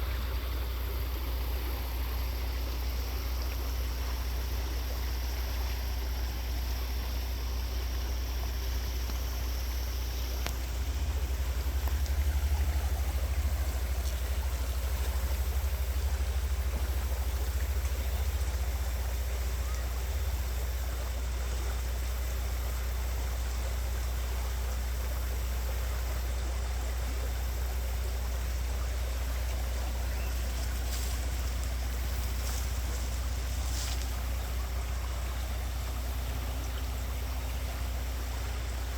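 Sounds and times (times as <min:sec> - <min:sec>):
river water rushing: 0:00.0 - 0:38.9
steady low rumble: 0:00.0 - 0:38.9.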